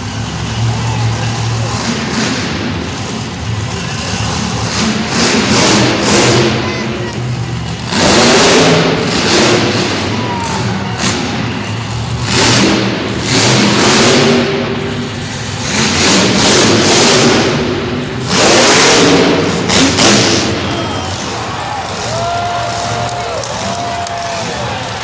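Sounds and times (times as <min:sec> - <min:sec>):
monster truck engines revving: 0:00.0 - 0:25.0.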